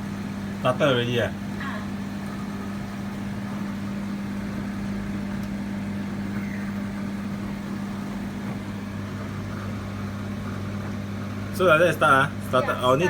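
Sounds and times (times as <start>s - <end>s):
tumble dryer humming: 0.0s - 13.0s.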